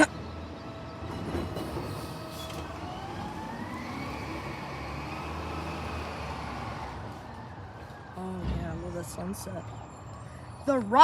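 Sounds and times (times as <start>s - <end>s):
garbage truck engine rumbling: 0.0s - 10.7s.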